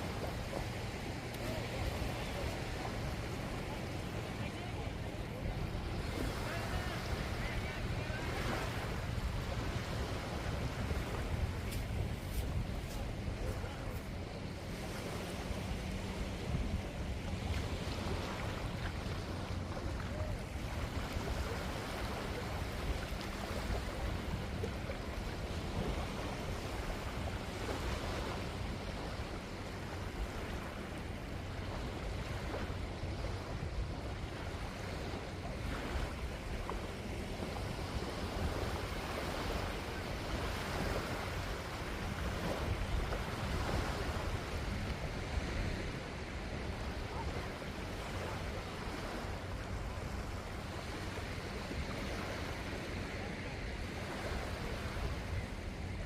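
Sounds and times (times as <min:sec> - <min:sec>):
waves washing on a beach: 0:00.0 - 0:56.0
wind on microphone: 0:00.0 - 0:56.0.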